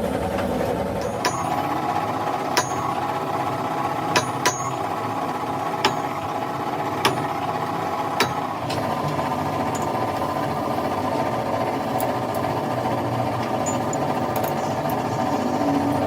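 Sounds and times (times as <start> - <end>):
workshop machine clattering: 0.0 - 16.0.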